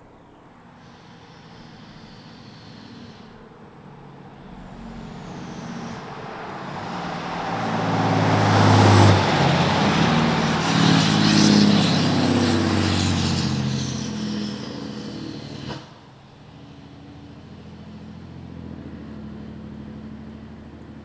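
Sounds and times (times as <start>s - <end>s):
diesel truck driving past: 0.0s - 21.0s.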